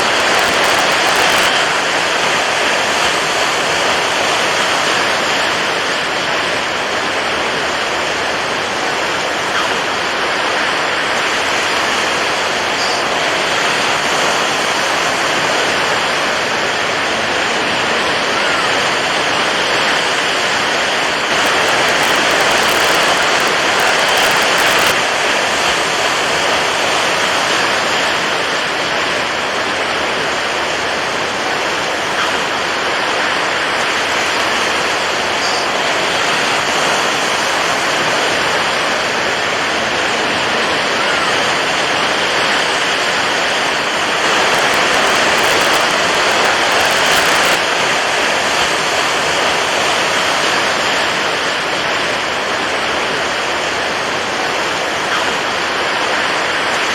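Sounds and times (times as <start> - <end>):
water waves washing: 0.0 - 56.9.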